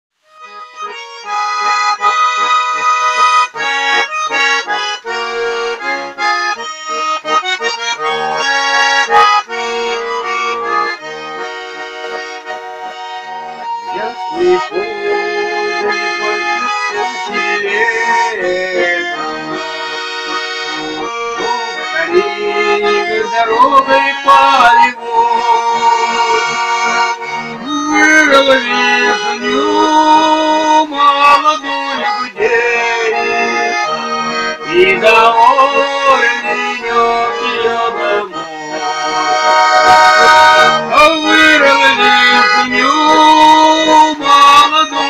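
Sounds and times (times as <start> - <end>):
button accordion folk tune: 0.2 - 45.0.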